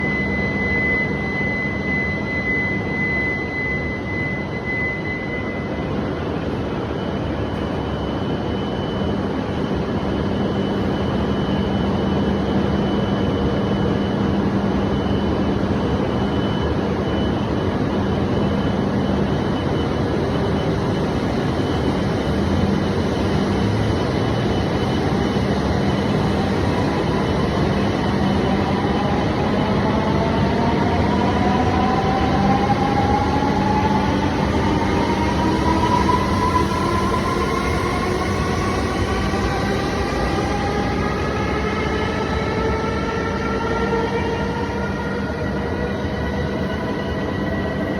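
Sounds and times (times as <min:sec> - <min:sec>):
electric train rumble and hum: 0:00.0 - 0:47.9.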